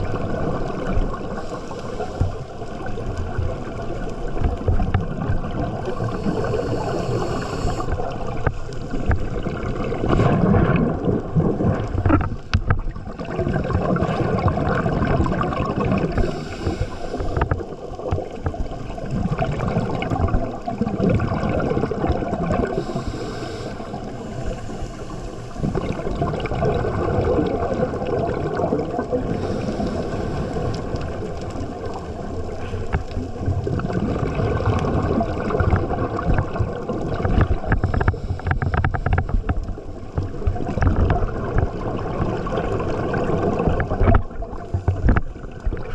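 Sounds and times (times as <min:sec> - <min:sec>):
bubbles hissing: 0:00.0 - 0:45.9
underwater gurgling wash: 0:00.0 - 0:45.9.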